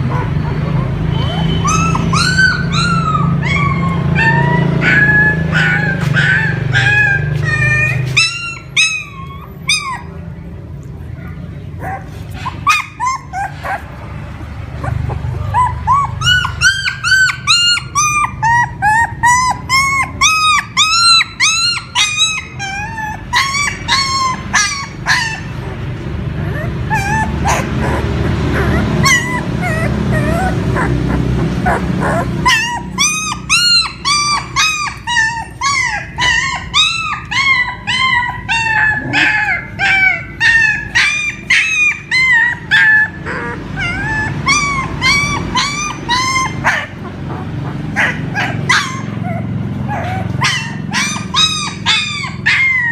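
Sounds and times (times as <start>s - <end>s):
dog whimpering and yelping: 0.0s - 10.5s, 11.8s - 52.9s.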